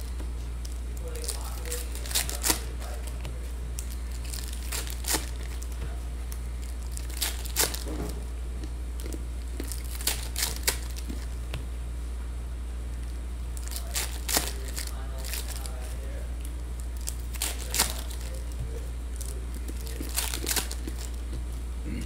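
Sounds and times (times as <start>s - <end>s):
foil wrappers tearing and crinkling: 0.0s - 8.2s, 9.0s - 11.4s, 13.6s - 16.2s, 16.8s - 21.3s
steady low hum: 0.0s - 22.0s.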